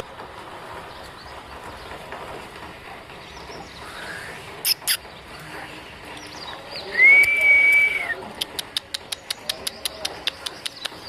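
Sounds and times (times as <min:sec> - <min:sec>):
small birds chirping: 0:00.6 - 0:11.0.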